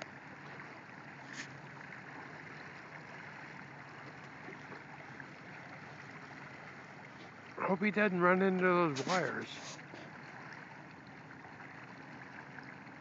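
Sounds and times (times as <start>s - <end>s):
river water washing: 0.0s - 13.0s
wind: 0.0s - 13.0s.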